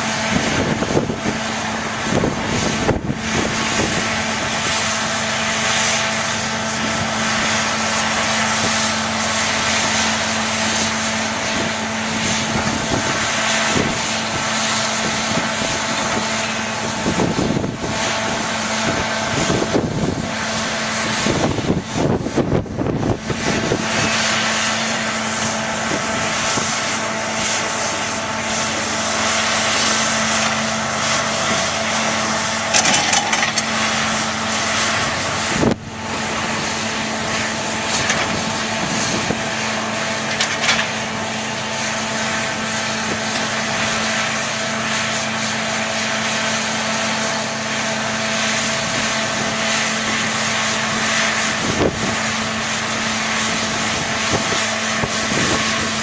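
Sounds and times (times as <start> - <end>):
diesel engines of heavy machinery: 0.0 - 56.0.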